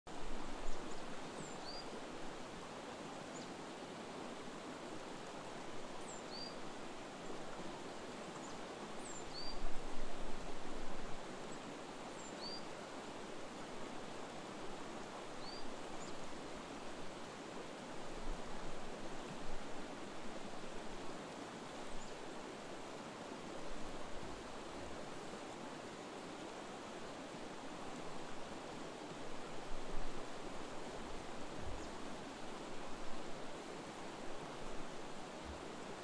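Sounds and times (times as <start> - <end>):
river rushing over rocks: 0.1 - 36.0.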